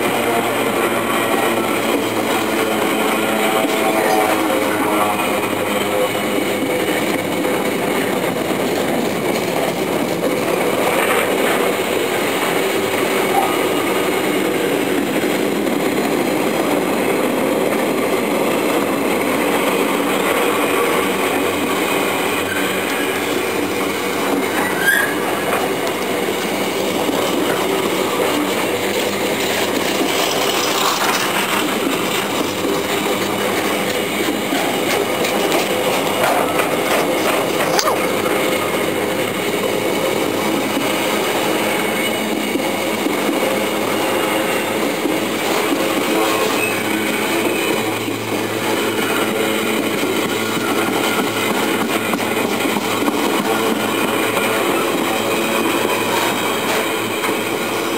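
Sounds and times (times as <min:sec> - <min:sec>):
freight train wheels on rails: 0:00.0 - 0:57.9.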